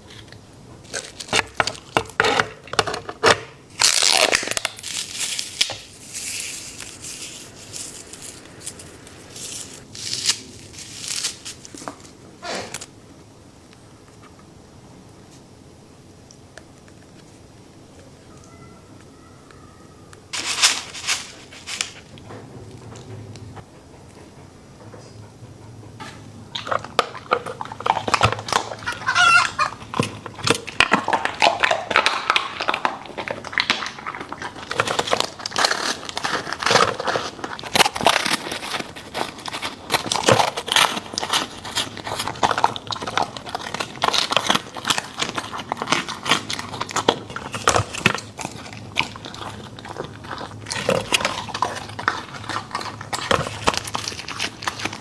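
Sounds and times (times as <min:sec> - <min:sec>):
dog chewing and crunching: 0:00.0 - 0:14.6, 0:20.3 - 0:55.0.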